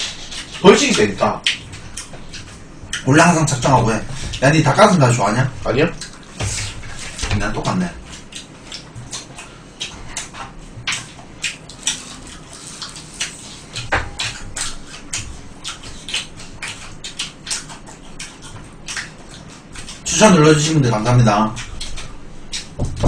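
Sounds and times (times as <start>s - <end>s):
crunchy chicken chewing: 0.0s - 22.8s.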